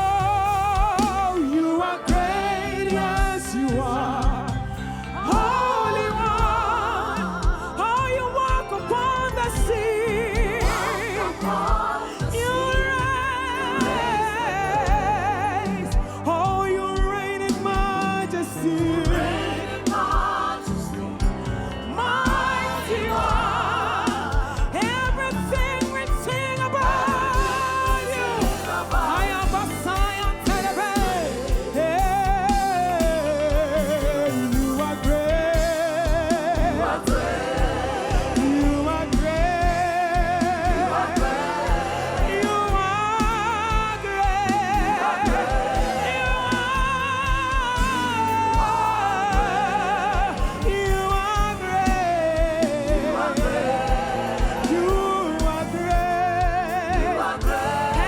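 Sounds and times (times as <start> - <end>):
band accompaniment: 0.0 - 58.0
person singing with vibrato: 0.0 - 58.0.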